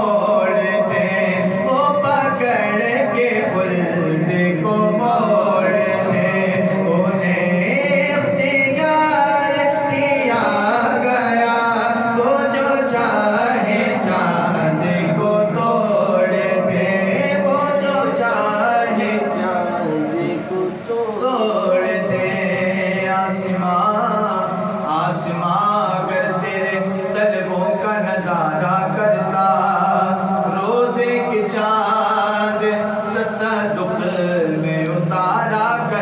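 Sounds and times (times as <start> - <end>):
man singing into a microphone: 0.0 - 36.0.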